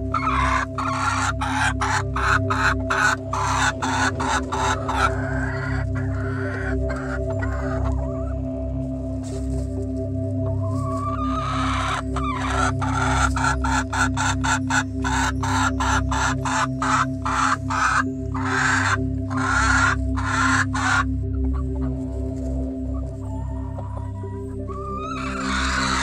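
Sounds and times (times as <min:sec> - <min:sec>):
background music: 0:00.0 - 0:26.0
chickens cackling: 0:00.0 - 0:26.0.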